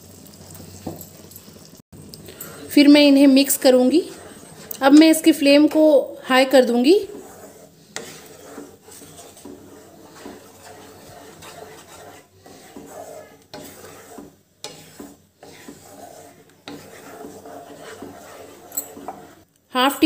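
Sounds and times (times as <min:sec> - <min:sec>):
wooden spatula scraping a pan: 0:02.4 - 0:19.5.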